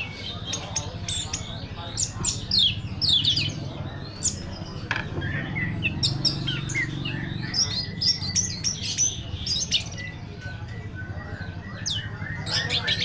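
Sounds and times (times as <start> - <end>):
thrush singing: 0.0 - 13.0.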